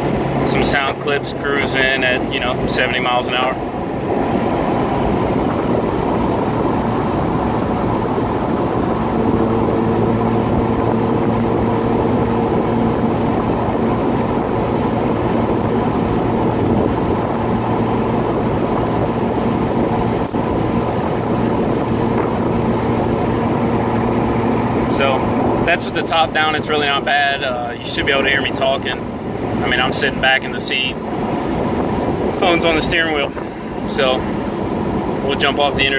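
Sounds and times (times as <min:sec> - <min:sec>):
car engine cruising: 0:00.0 - 0:35.9
exhaust drone: 0:00.0 - 0:35.9
wind and road noise: 0:00.0 - 0:35.9.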